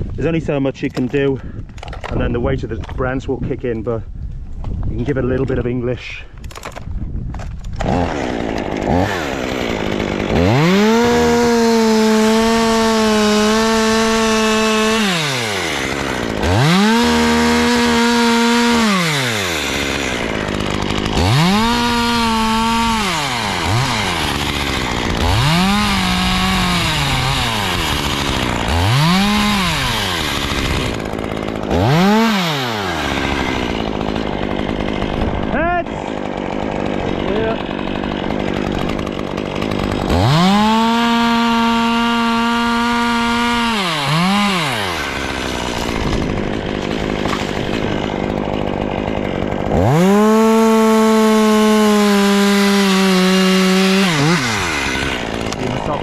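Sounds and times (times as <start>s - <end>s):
chainsaw revving: 7.7s - 56.0s.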